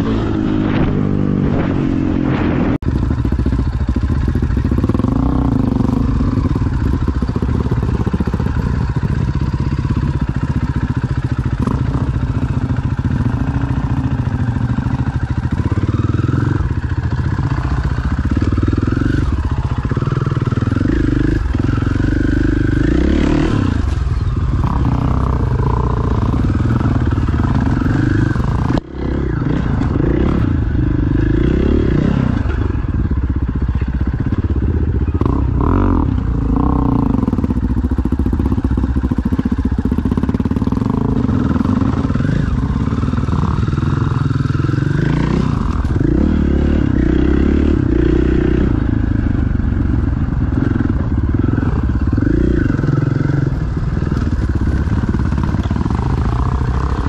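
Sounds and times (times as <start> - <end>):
motorcycle engine blipping throttle: 0.0 - 57.0.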